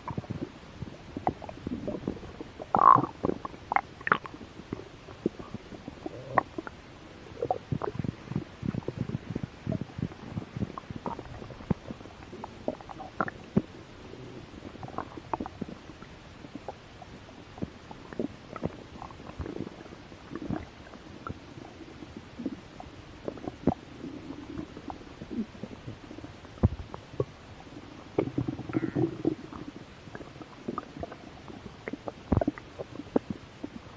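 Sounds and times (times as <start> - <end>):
stomach growling: 0.0 - 33.9.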